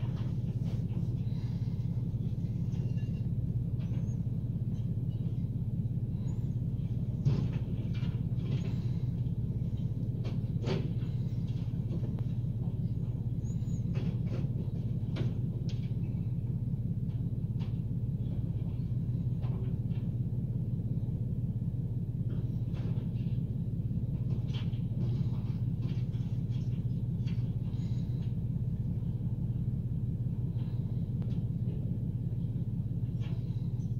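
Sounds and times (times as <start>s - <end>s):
garbage truck idling: 0.0s - 33.9s.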